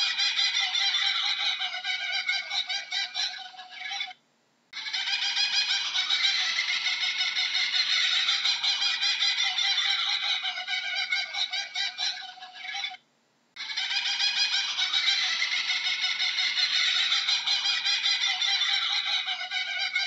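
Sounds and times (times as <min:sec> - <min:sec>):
kookaburra calling: 0:00.0 - 0:04.2, 0:04.8 - 0:13.0, 0:13.6 - 0:20.0.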